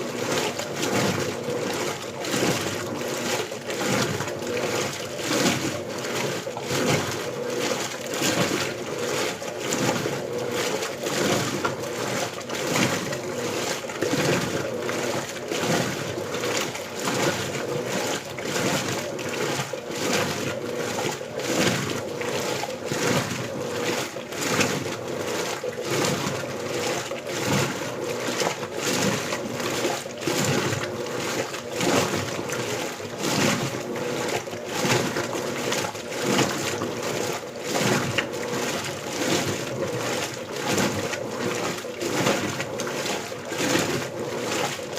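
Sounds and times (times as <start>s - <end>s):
washing machine water sloshing: 0.0s - 44.9s.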